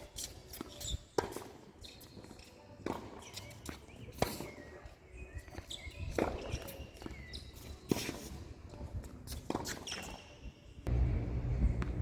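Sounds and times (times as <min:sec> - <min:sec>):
shoe squeaks: 0:00.0 - 0:10.7.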